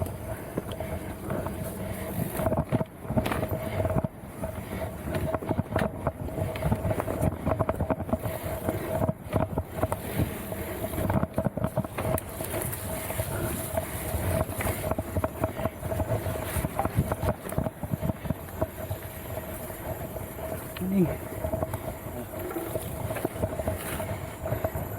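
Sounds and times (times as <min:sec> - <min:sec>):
mountain bike clattering: 0:00.0 - 0:24.9
wind on microphone: 0:00.0 - 0:24.9.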